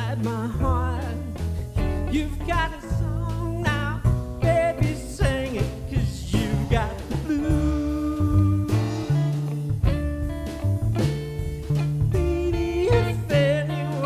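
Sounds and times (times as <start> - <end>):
drums: 0.0 - 14.0
electric guitar lead: 0.0 - 14.0
plucked double bass: 0.0 - 14.0.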